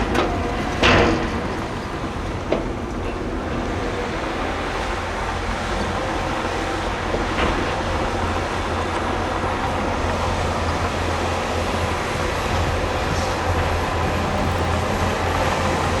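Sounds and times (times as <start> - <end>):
diesel engine rumble: 0.0 - 16.0
track and metal clatter: 0.0 - 16.0.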